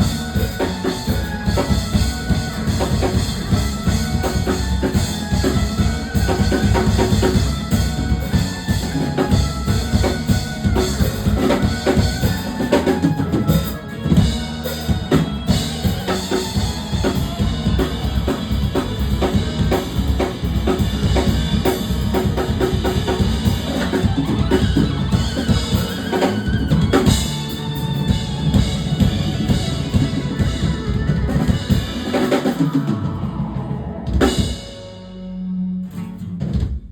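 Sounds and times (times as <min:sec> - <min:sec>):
drum kit beat: 0:00.0 - 0:35.2
instrumental band music: 0:00.0 - 0:36.9.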